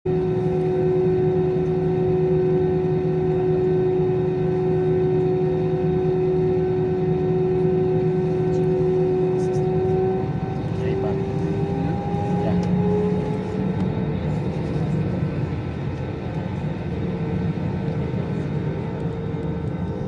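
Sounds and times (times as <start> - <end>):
airliner engines humming: 0.1 - 20.0.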